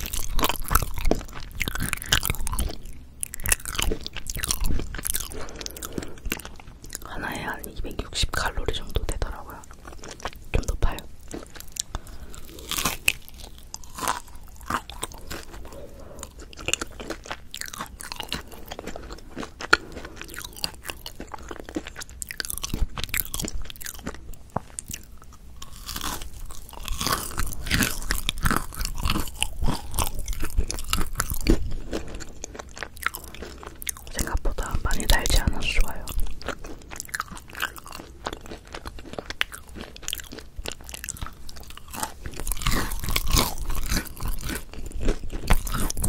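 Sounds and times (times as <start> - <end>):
biting and chewing bread: 0.0 - 46.0.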